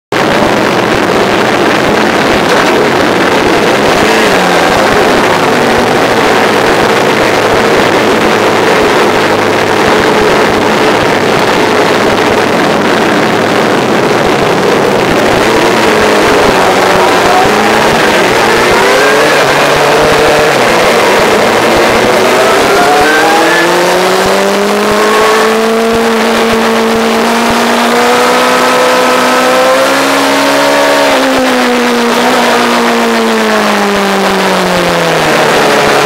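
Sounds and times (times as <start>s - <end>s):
motorcycle engines at low revs: 0.1s - 36.0s.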